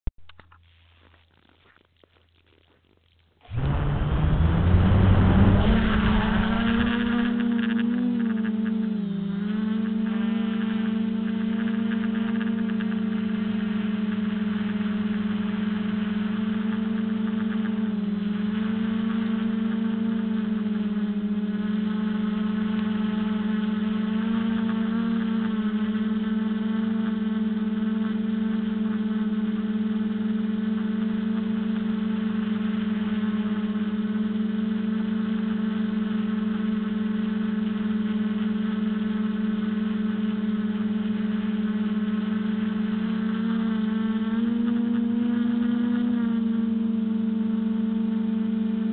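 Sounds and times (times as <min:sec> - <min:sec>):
quadcopter propellers buzzing: 0:03.5 - 0:48.9.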